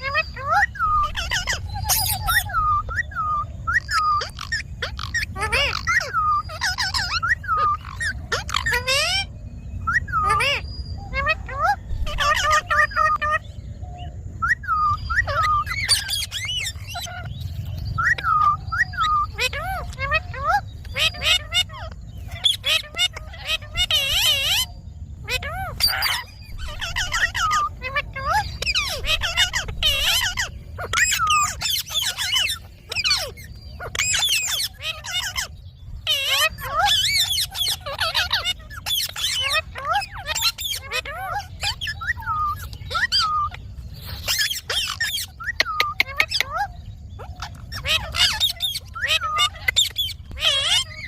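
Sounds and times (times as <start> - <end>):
parakeet squawking: 0.0 - 51.0
steady low rumble: 0.0 - 51.0.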